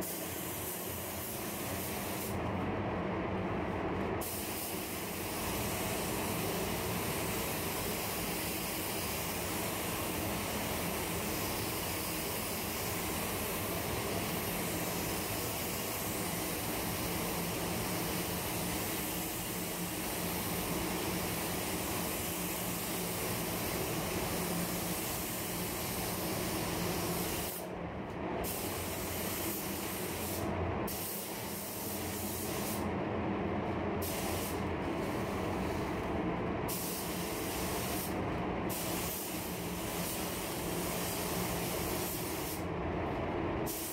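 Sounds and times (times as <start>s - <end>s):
spray gun hissing: 0.0s - 2.4s, 4.2s - 27.6s, 28.4s - 32.8s, 34.0s - 35.8s, 36.7s - 42.7s, 43.7s - 43.9s.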